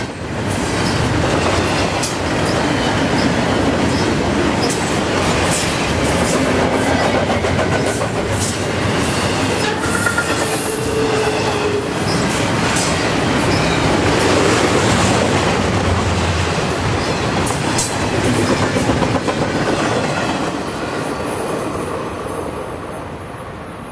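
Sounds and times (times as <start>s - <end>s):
freight train wheels clicking: 0.0s - 23.9s.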